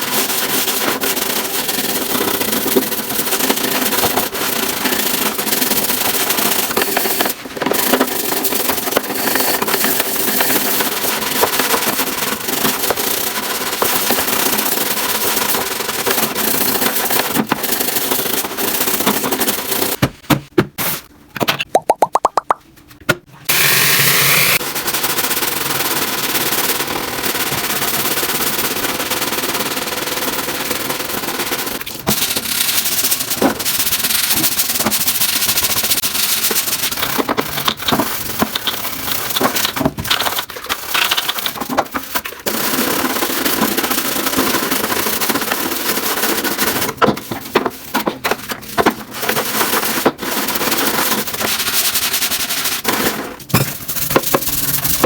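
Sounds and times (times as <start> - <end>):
kitchen cleaning noise: 0.0 - 21.3, 22.1 - 24.9, 31.0 - 55.0.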